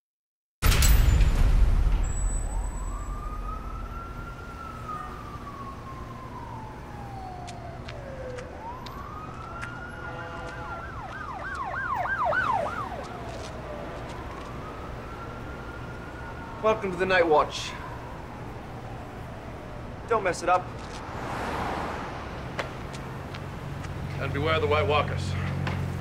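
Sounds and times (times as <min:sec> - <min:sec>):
emergency siren wailing and yelping: 0:02.3 - 0:23.2.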